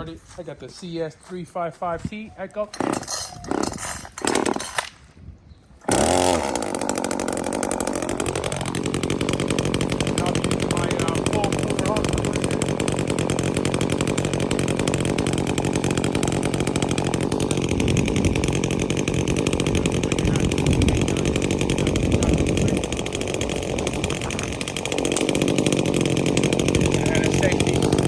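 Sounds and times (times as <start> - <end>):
chainsaw running: 2.8 - 4.9, 5.8 - 28.0.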